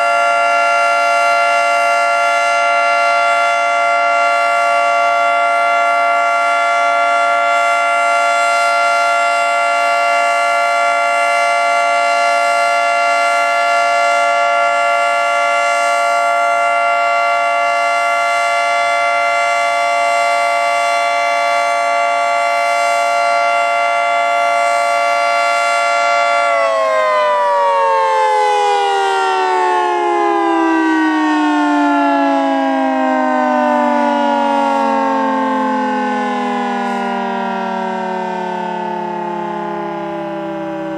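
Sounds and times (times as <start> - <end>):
two-tone warning siren: 0.0 - 40.9.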